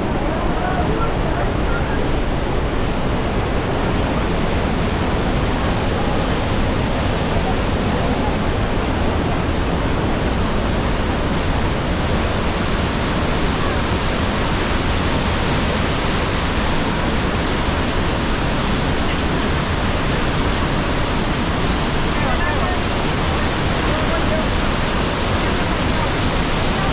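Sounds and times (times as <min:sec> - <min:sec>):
roar of waterfall: 0:00.0 - 0:26.9.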